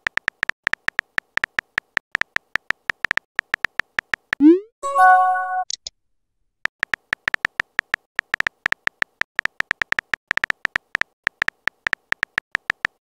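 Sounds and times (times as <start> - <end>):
phone keyboard ticks: 0.0 - 4.4, 6.8 - 13.0.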